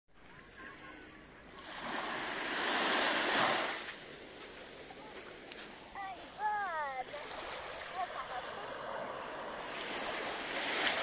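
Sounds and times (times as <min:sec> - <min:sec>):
wave washing onto sandy beach: 0:00.2 - 0:11.0.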